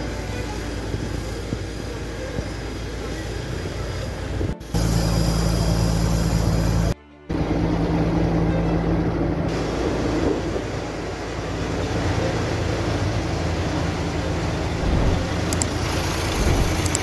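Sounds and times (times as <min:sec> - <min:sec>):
constant rushing noise: 0:00.0 - 0:17.0
diesel engines humming: 0:00.0 - 0:17.0.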